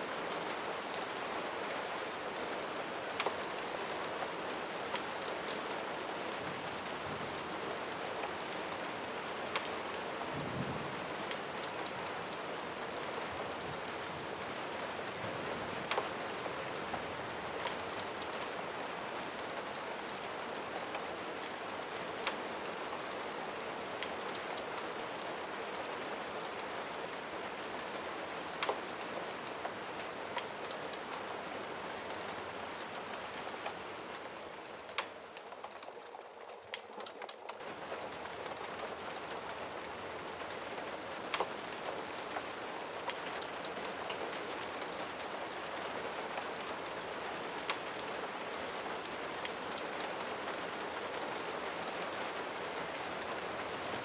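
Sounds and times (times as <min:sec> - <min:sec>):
steady rain falling: 0:00.0 - 0:54.0
ticks of raindrops: 0:00.0 - 0:54.0.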